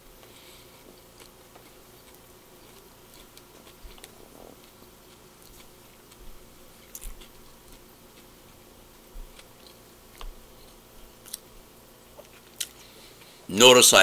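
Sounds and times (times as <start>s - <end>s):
person chewing: 0.2s - 13.4s.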